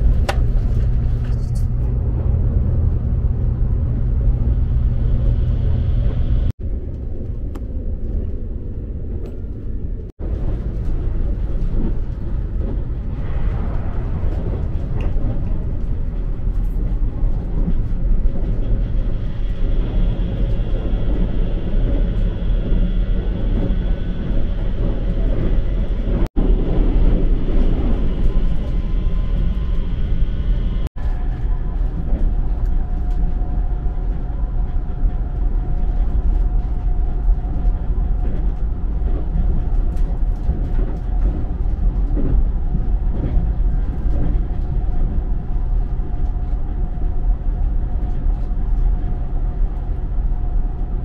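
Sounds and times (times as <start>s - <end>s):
train rumble inside carriage: 0.0s - 51.0s.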